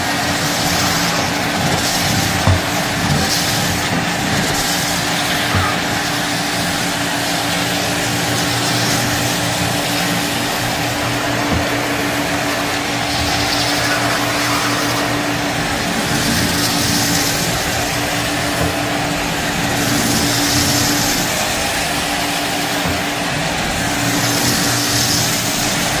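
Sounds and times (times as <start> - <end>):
vacuum cleaner running on carpet: 0.0 - 26.0.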